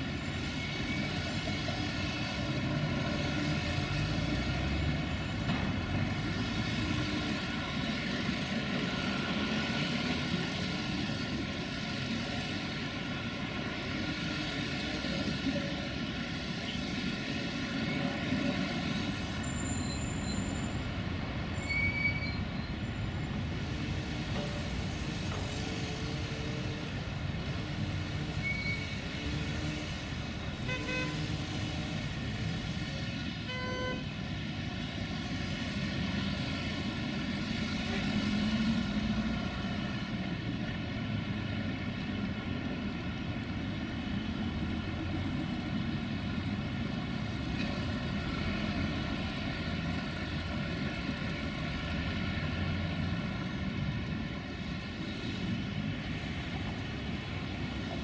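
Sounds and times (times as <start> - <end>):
city road traffic: 0.0 - 58.0
trams going by: 0.0 - 58.0.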